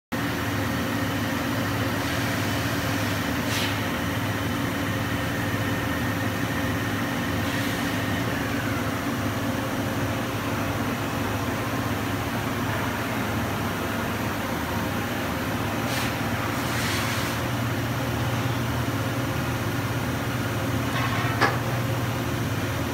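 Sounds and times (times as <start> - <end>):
machinery humming: 0.2 - 22.9.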